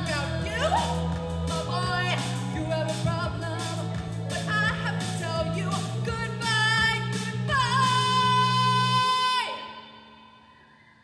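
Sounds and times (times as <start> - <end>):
woman singing: 0.0 - 10.2.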